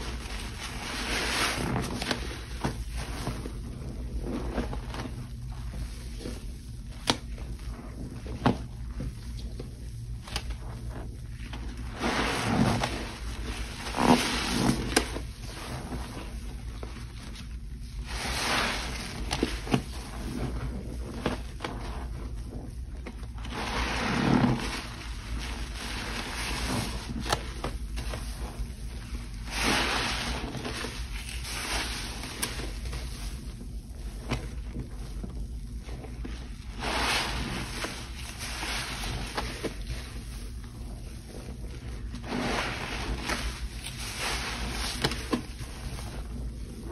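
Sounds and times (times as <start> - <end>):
sudsy water sloshing: 0.0 - 46.9.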